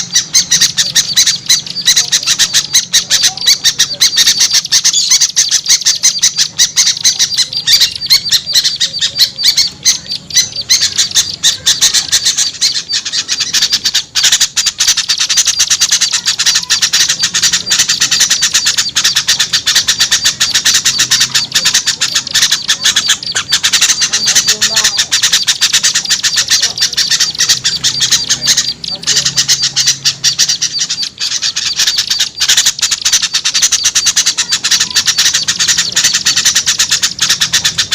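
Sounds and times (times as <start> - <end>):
songbirds chattering: 0.0 - 37.9.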